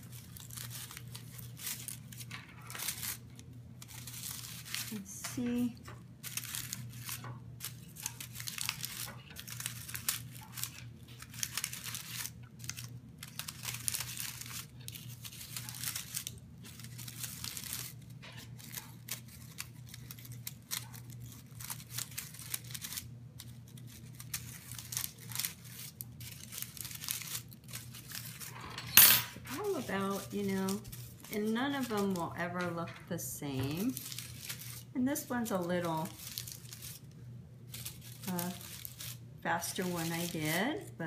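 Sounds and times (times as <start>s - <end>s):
paper liners crinkling: 0.0s - 41.0s.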